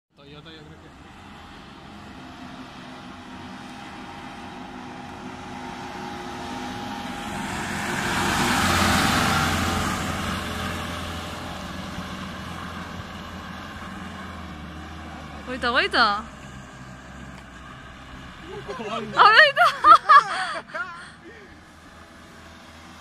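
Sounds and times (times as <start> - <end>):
truck engine driving past: 0.2 - 23.0.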